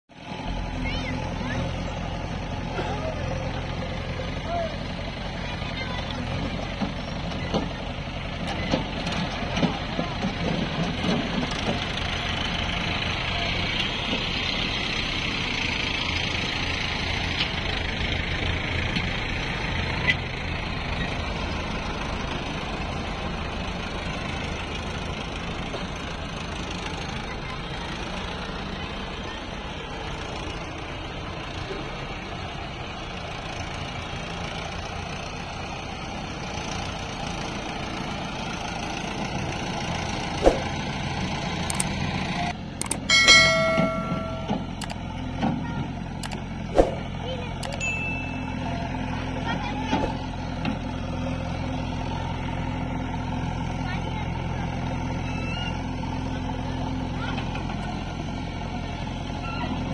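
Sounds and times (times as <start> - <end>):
backhoe loader engine: 0.1 - 59.9
tractor engine running: 0.1 - 59.9.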